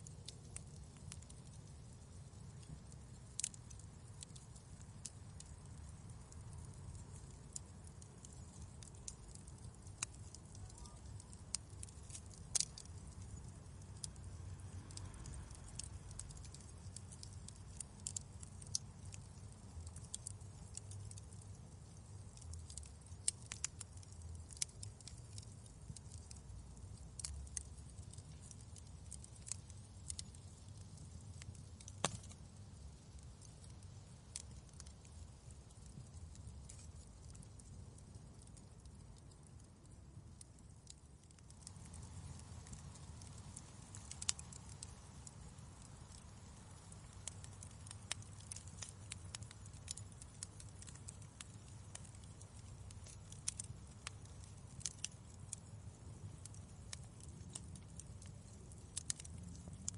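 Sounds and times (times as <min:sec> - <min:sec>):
flames rumbling: 0:00.0 - 0:59.9
wood fire crackling: 0:00.0 - 0:59.9.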